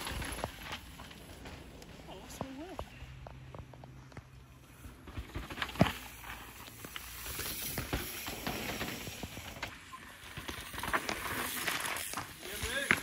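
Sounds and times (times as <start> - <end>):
bike clattering over roots: 0.0 - 2.0, 3.9 - 13.0
tyres skidding on loose dirt: 0.0 - 13.0.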